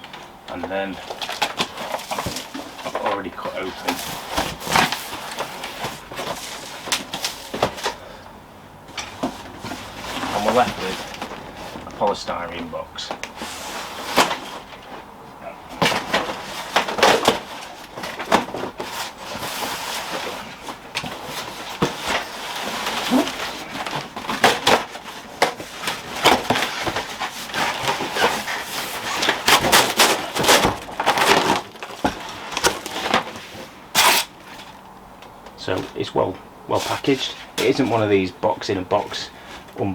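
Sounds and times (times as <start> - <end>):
polystyrene and cardboard rustling: 0.8 - 8.0, 9.0 - 15.0, 15.7 - 34.8.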